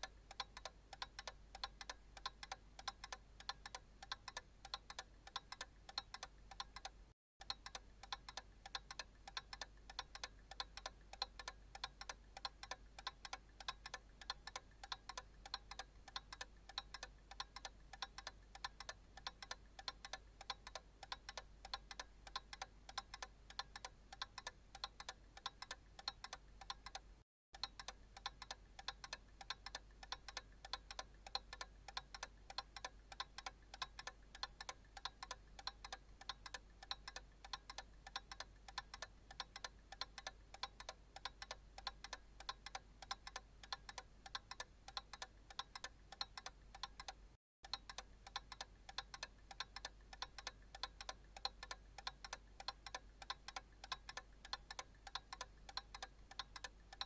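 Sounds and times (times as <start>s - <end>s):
clock ticking: 0.0s - 57.0s.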